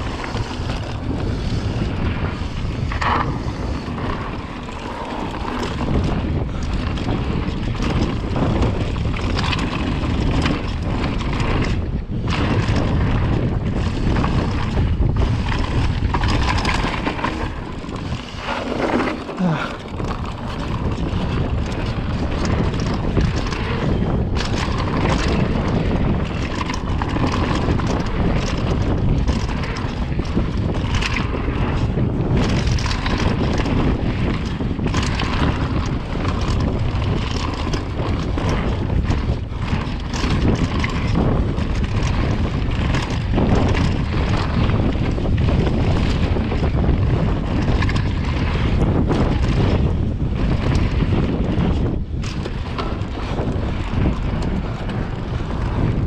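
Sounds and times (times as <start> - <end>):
bike knocks and rattles: 0.0 - 56.0
wind buffeting microphone: 0.0 - 56.0.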